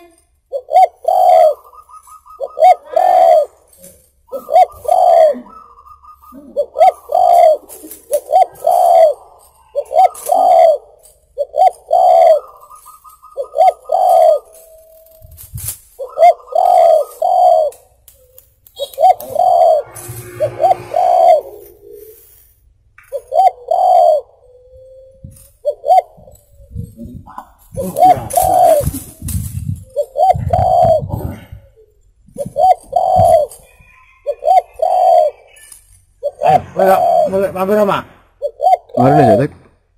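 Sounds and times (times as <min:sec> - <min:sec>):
dove cooing: 0:00.5 - 0:22.3, 0:23.1 - 0:39.4.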